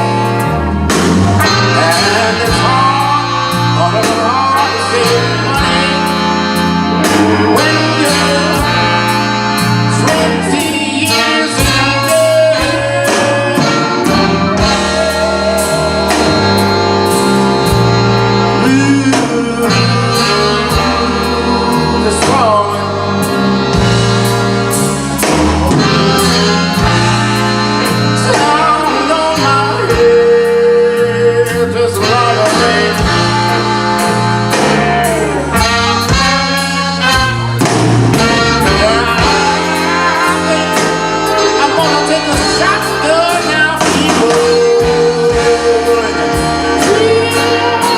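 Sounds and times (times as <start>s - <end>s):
bass and drums: 0.0s - 47.9s
live blues band playing: 0.0s - 47.9s.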